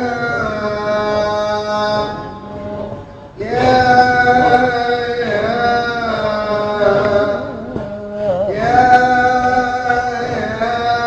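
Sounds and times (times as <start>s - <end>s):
man singing devotional chant: 0.0s - 11.0s.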